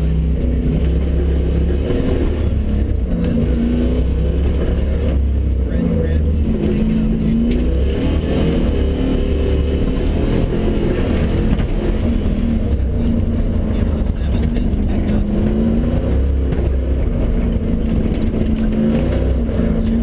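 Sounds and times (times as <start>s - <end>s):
car engine revving: 0.0s - 20.0s
low rumble: 0.0s - 20.0s.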